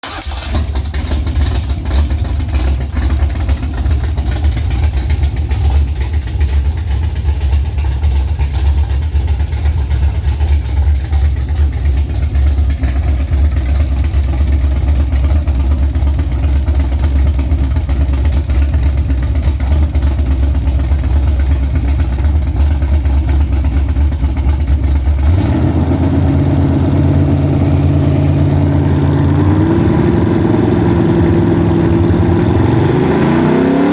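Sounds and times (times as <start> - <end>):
car engine choppy idle: 0.0 - 33.9.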